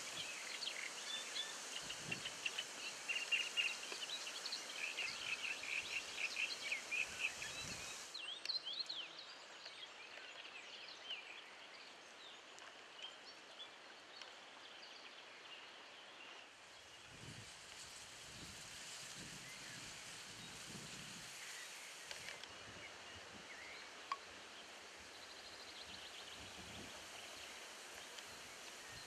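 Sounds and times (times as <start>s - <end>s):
soft outdoor hiss: 0.0s - 29.0s.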